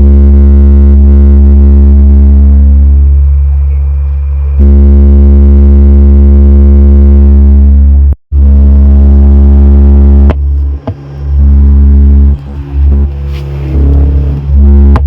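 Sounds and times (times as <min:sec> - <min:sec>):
loudspeaker deep bass tone: 0:00.0 - 0:15.0.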